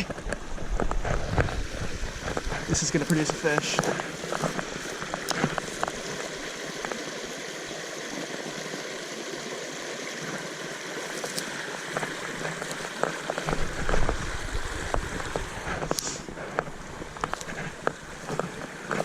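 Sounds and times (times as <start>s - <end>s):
stream water trickling: 0.0s - 19.0s.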